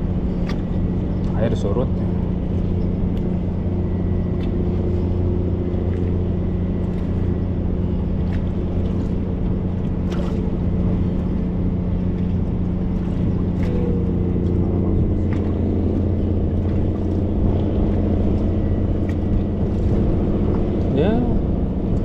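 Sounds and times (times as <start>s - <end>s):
marine engine droning: 0.0s - 22.0s.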